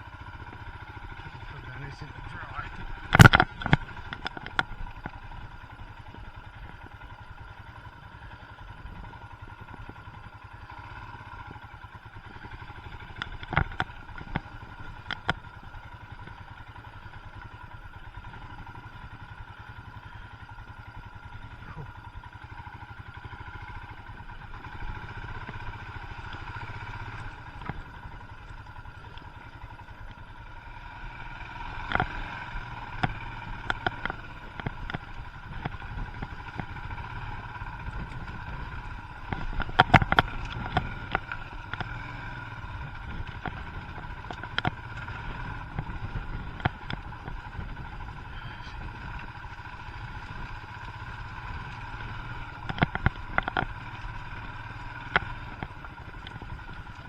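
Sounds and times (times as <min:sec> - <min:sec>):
motorcycle engine at low revs: 0:00.0 - 0:57.0.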